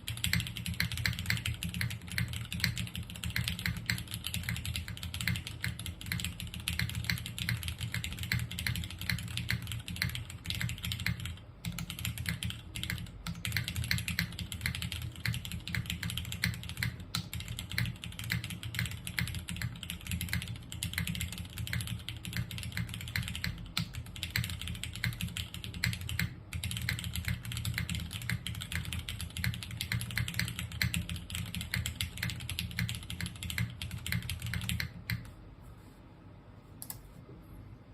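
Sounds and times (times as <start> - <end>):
fast typing on mechanical keyboard: 0.0 - 35.3.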